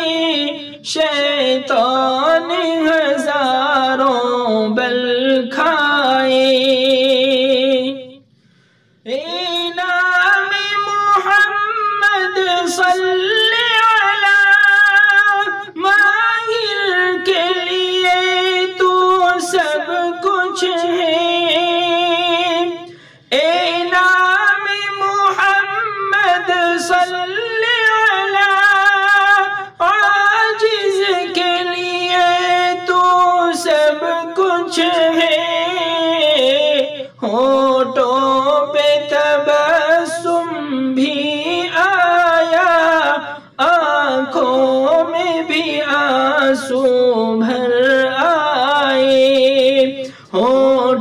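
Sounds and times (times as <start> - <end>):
man singing unaccompanied: 0.0 - 8.3, 9.0 - 51.0.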